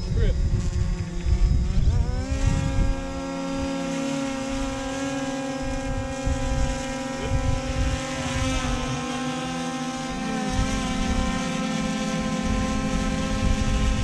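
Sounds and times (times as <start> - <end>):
motor humming: 0.0 - 14.0
wind buffeting microphone: 0.0 - 14.0.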